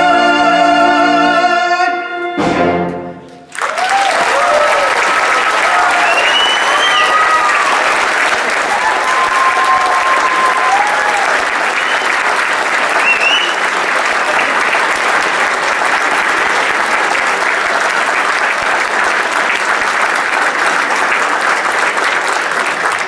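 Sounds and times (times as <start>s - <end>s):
audience applauding: 3.4s - 23.0s.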